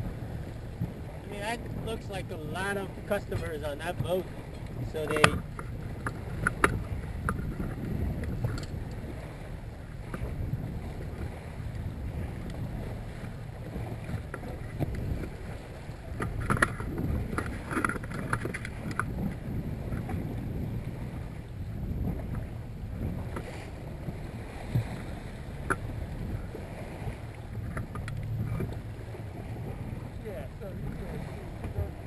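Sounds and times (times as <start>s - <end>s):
water slapping against boat bow: 0.0s - 32.0s
wind buffeting microphone: 0.0s - 32.0s.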